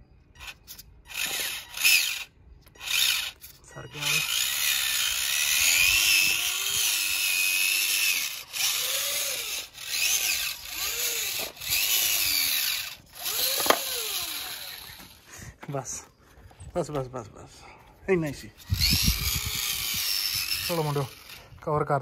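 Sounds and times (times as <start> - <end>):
small electric motor whining: 0.3 - 15.3, 18.5 - 21.6.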